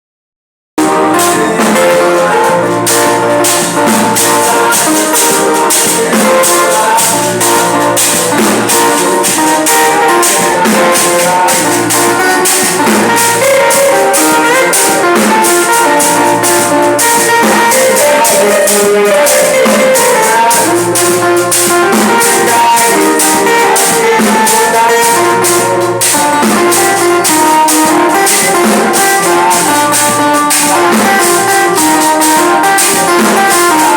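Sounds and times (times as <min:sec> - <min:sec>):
instrumental music with steady beat: 0:00.8 - 0:33.9.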